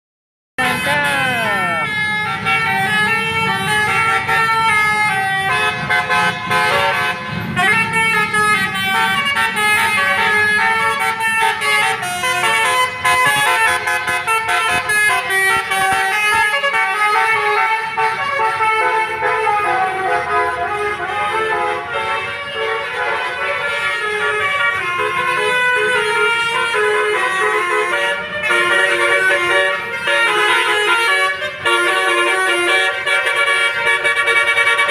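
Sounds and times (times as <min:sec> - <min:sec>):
bus engine rumble: 0:00.6 - 0:34.9
musical air horn melody: 0:00.6 - 0:34.9.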